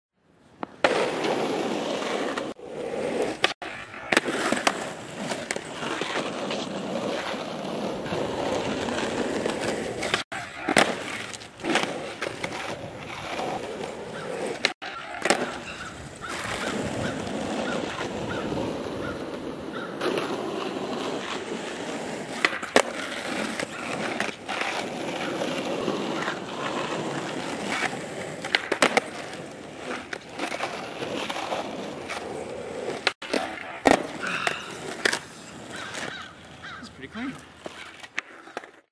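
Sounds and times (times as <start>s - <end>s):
skateboard wheels rolling on asphalt: 0.2s - 38.9s
skateboard clacks: 0.5s - 36.3s, 37.3s - 38.8s.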